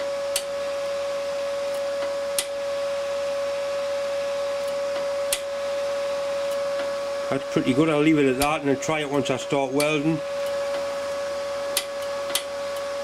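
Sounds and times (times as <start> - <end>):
wire-feed motor whine: 0.0 - 13.0.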